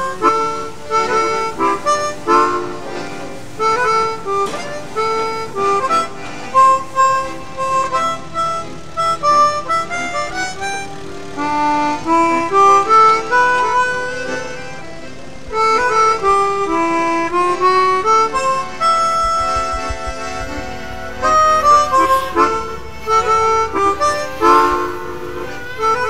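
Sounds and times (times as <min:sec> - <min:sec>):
instrumental background music: 0:00.0 - 0:26.0.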